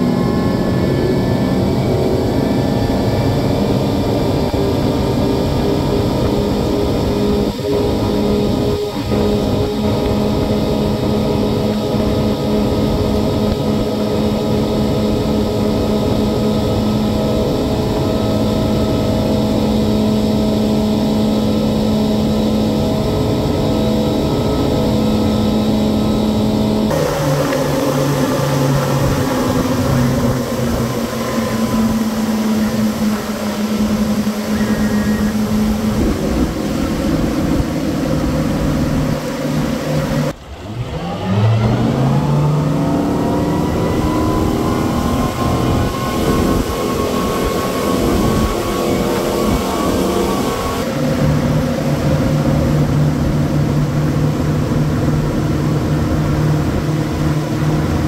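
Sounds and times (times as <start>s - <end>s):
outboard engines running: 0.0s - 58.0s
water rushing: 0.0s - 58.0s
wind: 0.0s - 58.0s.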